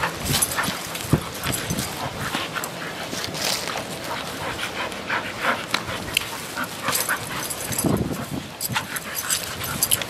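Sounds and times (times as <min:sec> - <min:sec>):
deep dog sound: 0:00.0 - 0:10.0
dogs play-fighting: 0:00.0 - 0:10.0.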